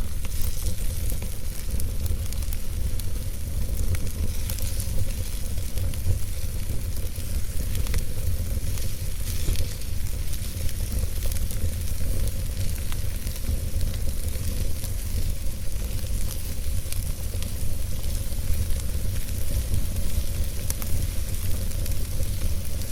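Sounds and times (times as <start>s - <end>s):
fire crackles and pops: 0.0s - 22.9s
flames rumbling and hissing: 0.0s - 22.9s.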